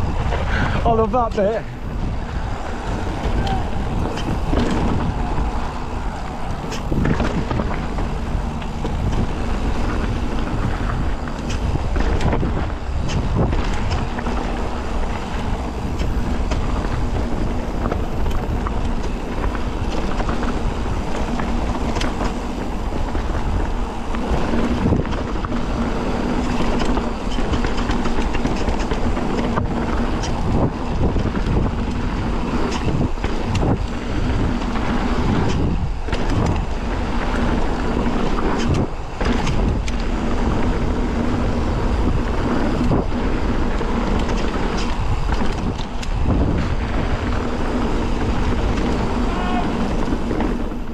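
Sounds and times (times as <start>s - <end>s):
bike rattling over rough ground: 0.0s - 50.9s
wind buffeting microphone: 0.0s - 50.9s.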